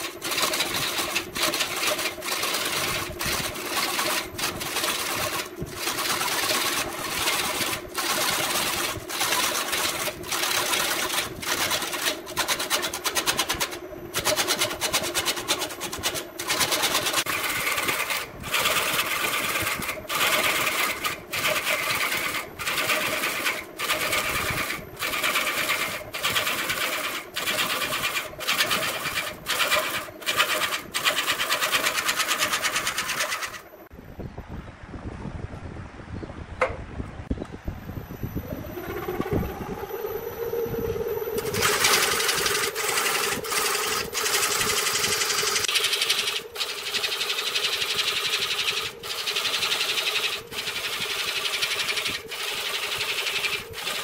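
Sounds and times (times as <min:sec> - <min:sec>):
wood lathe tool scraping chatter: 0:00.0 - 0:33.8, 0:41.1 - 0:54.0.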